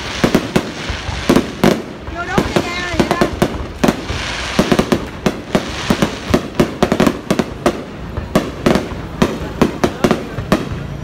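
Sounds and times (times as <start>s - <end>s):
fireworks bangs and cracks: 0.0s - 11.0s
steady noisy background: 0.0s - 11.0s.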